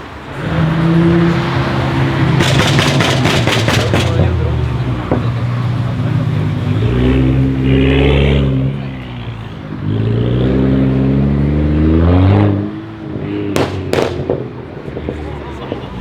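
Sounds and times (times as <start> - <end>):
car engine revving hard: 0.2 - 16.0.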